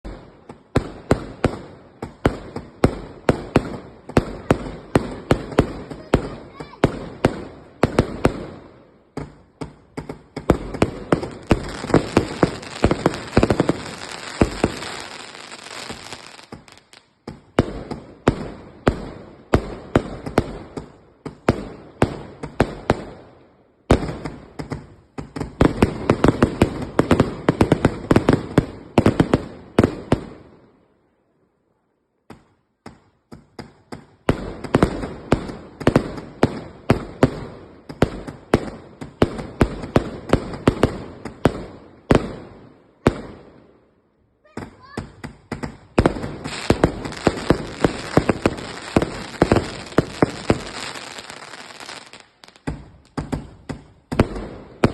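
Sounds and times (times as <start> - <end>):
fireworks bangs and crackles: 0.0 - 30.8, 32.2 - 54.9.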